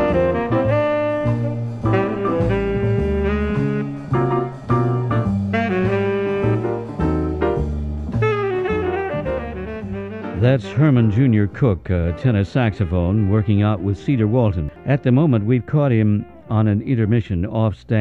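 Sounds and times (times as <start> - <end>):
tenor saxophone melody: 0.0 - 16.7
bass notes: 0.0 - 18.0.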